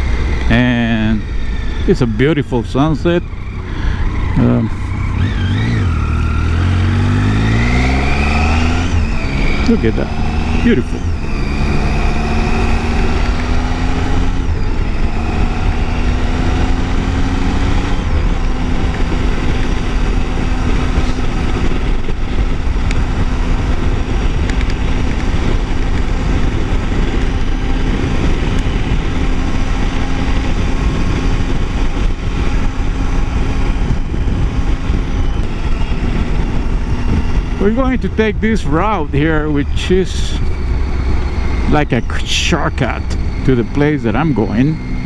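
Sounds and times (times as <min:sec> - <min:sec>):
motorcycle engine running: 0:00.0 - 0:45.0
wind rumble on microphone: 0:00.0 - 0:45.0.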